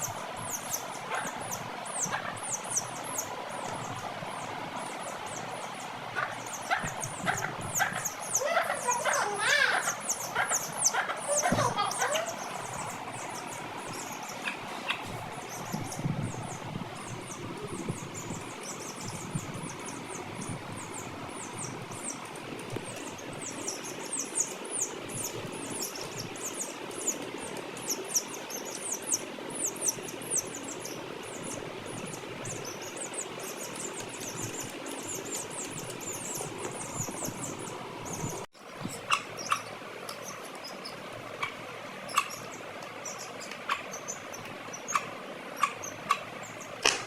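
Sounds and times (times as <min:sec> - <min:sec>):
low background hum: 0:00.0 - 0:47.0.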